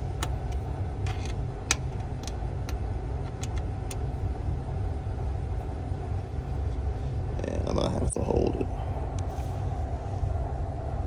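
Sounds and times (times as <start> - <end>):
low machinery rumble: 0.0 - 11.0.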